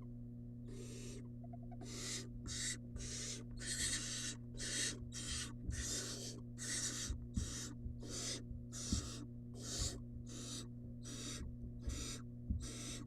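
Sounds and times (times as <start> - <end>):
owl chick hissing begging calls: 0.7 - 1.2, 1.8 - 13.0.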